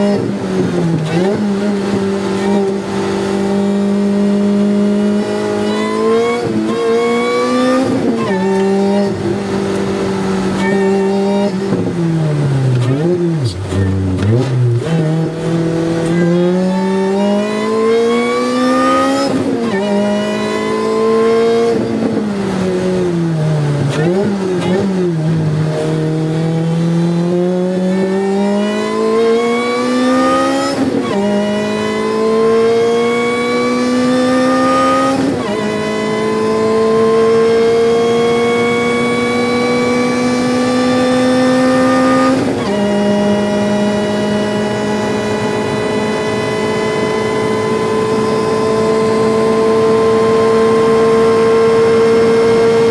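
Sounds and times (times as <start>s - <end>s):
racing car engine accelerating: 0.0s - 52.9s.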